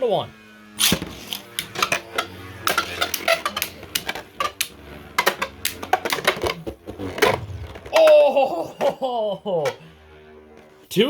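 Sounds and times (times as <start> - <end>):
plastic tops clacking: 0.8 - 9.9.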